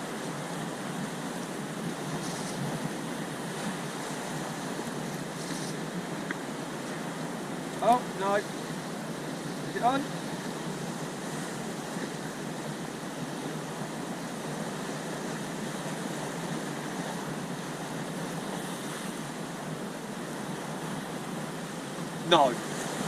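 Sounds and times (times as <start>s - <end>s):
sea surf: 0.0s - 23.0s
wind on microphone: 0.0s - 23.0s.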